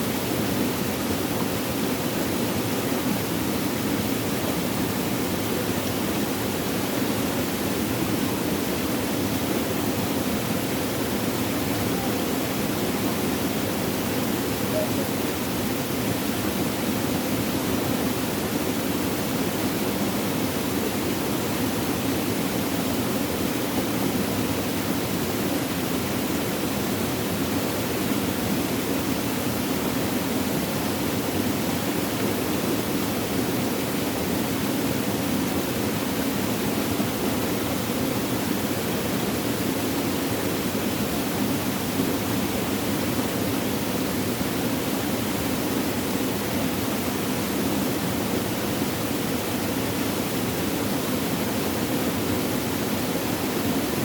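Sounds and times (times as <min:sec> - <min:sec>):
babbling water rushing: 0:00.0 - 0:54.0.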